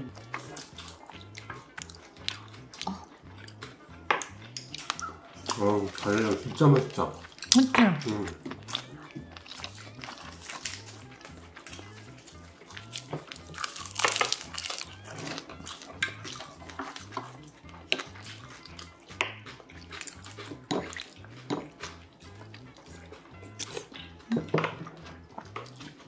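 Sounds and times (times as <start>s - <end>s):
chewing: 0.0s - 26.0s
soft background music with beat: 0.0s - 26.0s.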